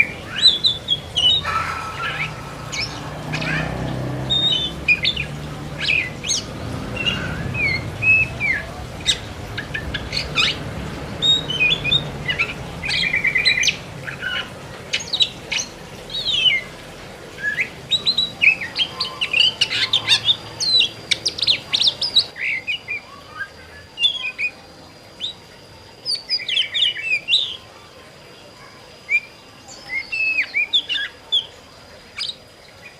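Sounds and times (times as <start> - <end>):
bird singing whistles and trills: 0.0 - 10.6, 11.2 - 16.7, 17.4 - 27.7, 29.0 - 31.6.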